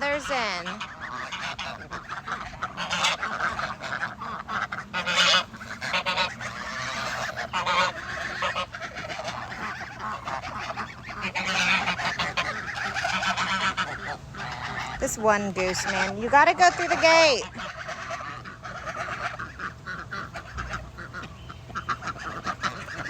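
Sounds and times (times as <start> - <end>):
geese and ducks honking: 0.0 - 23.0.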